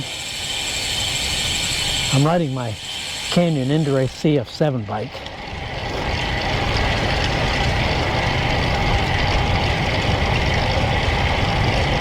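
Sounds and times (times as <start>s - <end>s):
bicycle road noise: 0.0s - 12.0s
thin steady whine: 0.0s - 12.0s.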